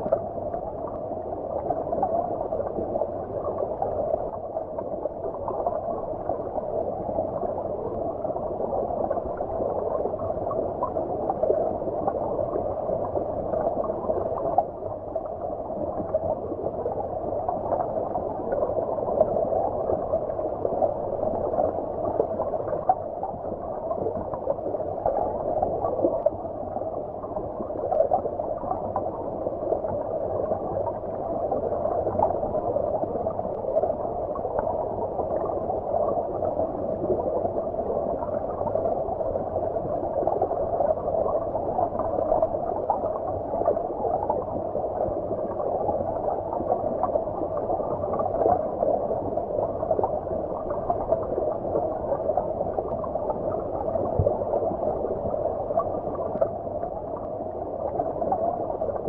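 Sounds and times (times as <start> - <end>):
muffled underwater stream gurgling: 0.0 - 59.0.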